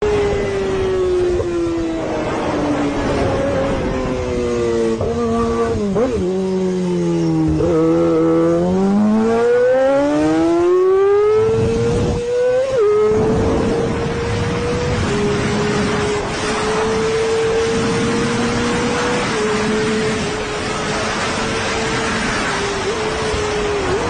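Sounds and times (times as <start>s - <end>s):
motorcycle engine revving: 0.0s - 24.0s
wind noise: 0.0s - 24.0s.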